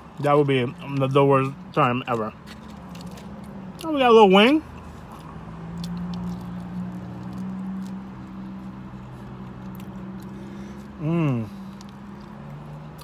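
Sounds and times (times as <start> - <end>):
chewing with wet clicks: 0.2 - 11.0, 11.6 - 13.0.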